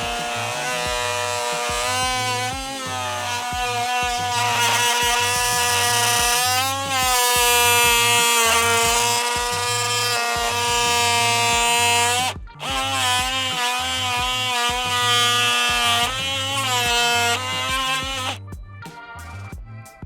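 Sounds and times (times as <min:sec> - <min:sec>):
multi-tool cutting wood: 0:00.0 - 0:18.4.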